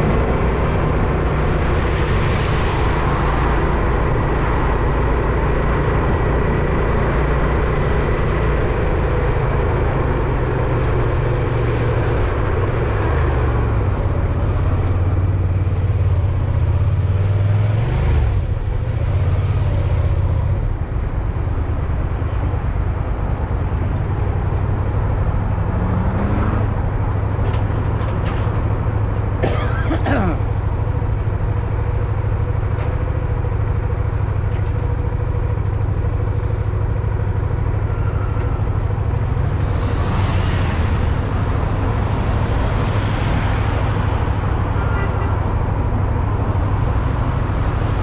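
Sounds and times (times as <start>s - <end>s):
engine rumble: 0.0s - 48.0s
wind: 0.0s - 48.0s.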